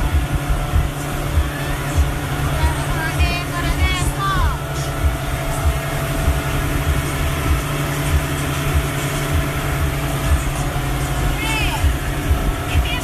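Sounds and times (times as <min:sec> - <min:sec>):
outboard motor drone: 0:00.0 - 0:13.0
water rushing in boat wake: 0:00.0 - 0:13.0.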